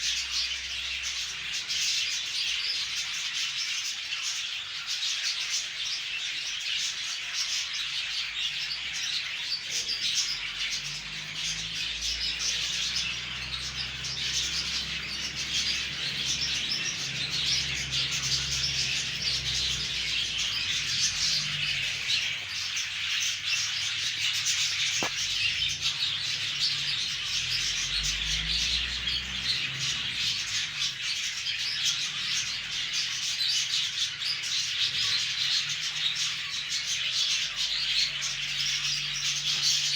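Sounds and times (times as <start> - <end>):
parrots chirping and chattering: 0.0 - 39.9.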